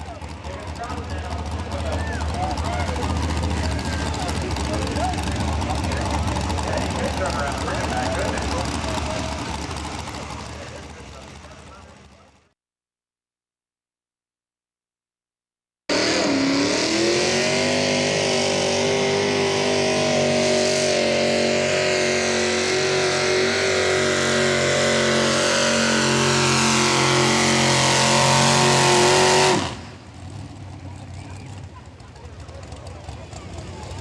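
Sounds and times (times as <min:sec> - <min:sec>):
tractor engine at full throttle: 0:00.0 - 0:12.5, 0:15.9 - 0:34.0.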